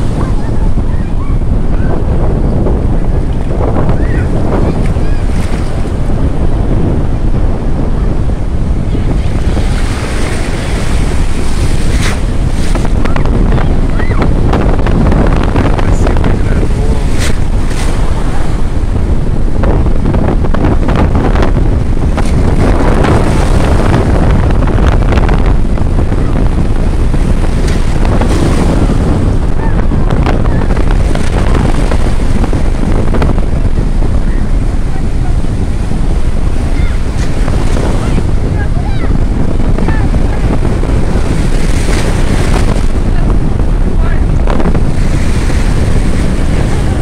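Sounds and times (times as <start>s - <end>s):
waves breaking: 0.0s - 47.0s
wind buffeting microphone: 0.0s - 47.0s.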